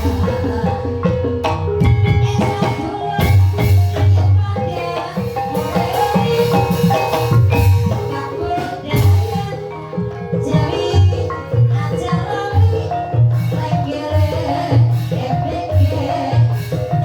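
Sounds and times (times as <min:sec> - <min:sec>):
deep drum beats: 0:00.0 - 0:17.0
struck keyed percussion melody: 0:00.0 - 0:17.0.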